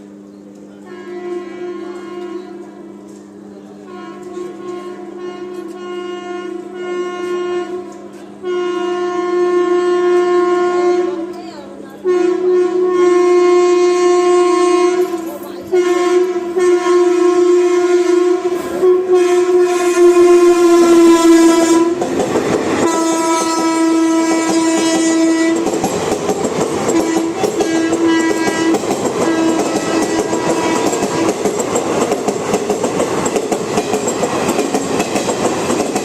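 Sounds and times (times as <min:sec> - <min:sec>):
train rumble and clatter: 0:00.0 - 0:36.0
locomotive horn honking: 0:00.8 - 0:03.2, 0:03.8 - 0:11.4, 0:12.0 - 0:26.2, 0:26.8 - 0:31.6.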